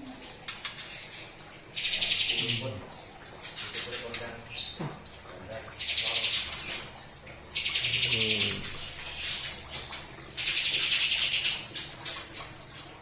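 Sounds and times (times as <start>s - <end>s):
buzzy bird trill: 0.0s - 13.0s
songbirds chirping rapidly: 0.0s - 13.0s.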